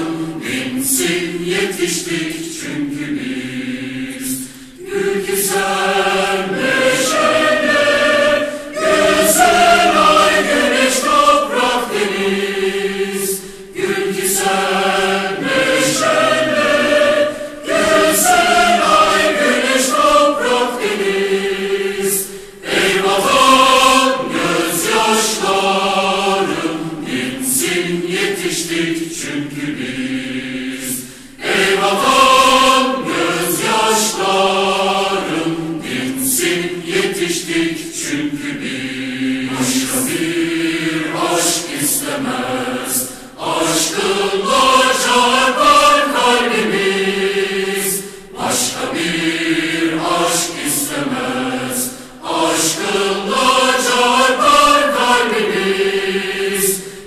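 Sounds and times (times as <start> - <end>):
choir singing a march: 0.0 - 57.0.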